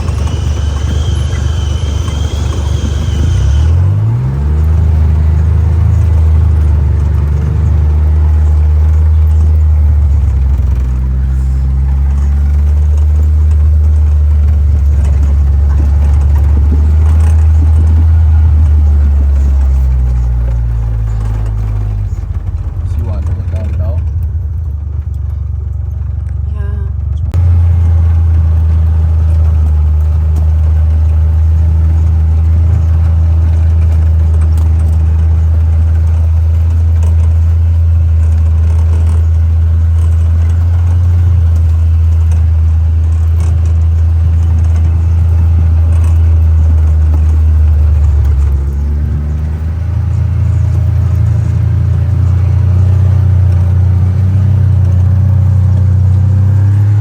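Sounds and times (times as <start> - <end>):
utility vehicle engine running: 0.0 - 57.0.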